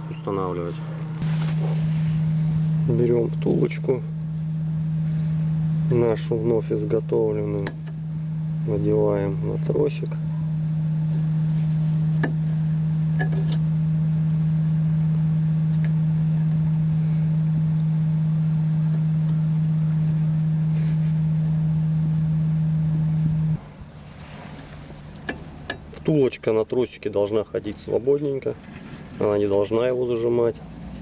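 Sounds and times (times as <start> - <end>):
low electrical motor hum: 0.0 - 31.0.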